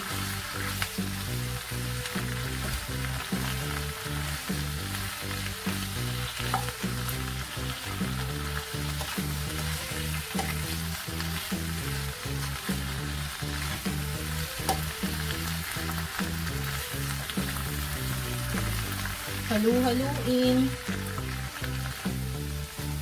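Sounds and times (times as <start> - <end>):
background music with bass line: 0.0 - 23.0
cabbage sizzling in a wok: 0.0 - 23.0.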